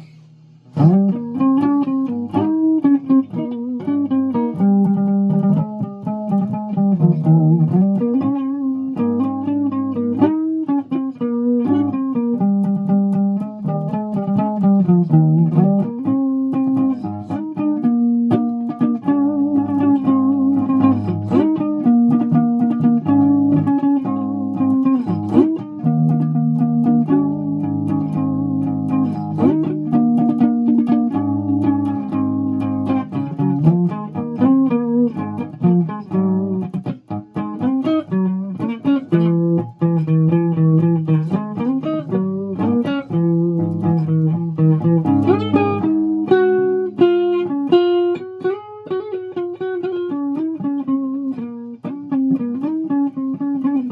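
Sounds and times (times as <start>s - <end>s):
guitar playing: 0.0s - 53.9s.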